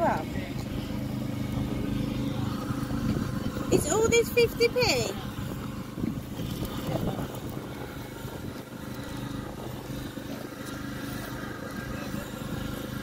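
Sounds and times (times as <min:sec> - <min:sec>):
engine humming: 0:00.0 - 0:13.0
outdoor background noise: 0:00.0 - 0:13.0.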